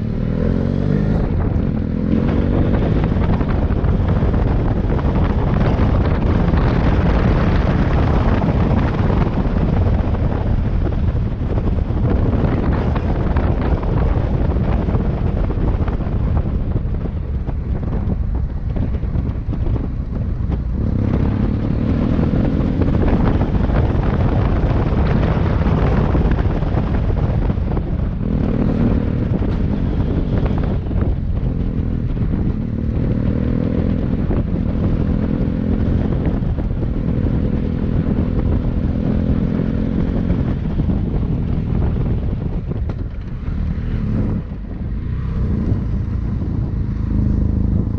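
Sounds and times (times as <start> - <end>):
motorcycle engine running: 0.0 - 47.9
wind rush on microphone: 0.0 - 47.9.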